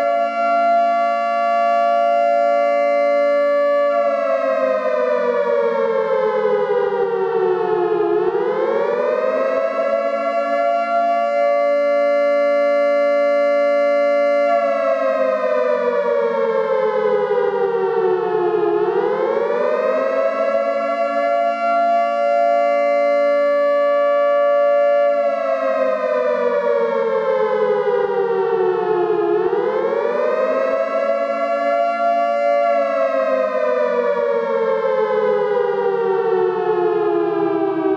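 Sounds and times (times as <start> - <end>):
siren wailing: 0.0 - 37.9.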